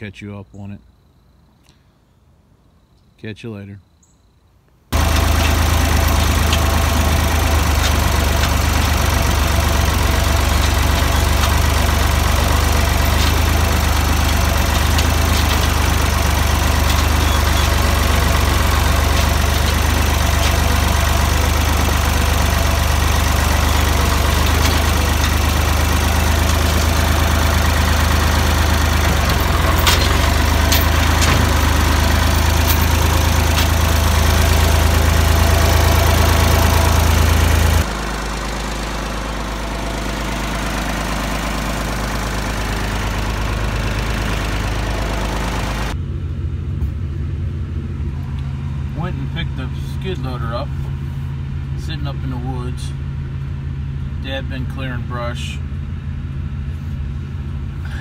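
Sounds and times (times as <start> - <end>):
tractor engine running: 4.9 - 58.0.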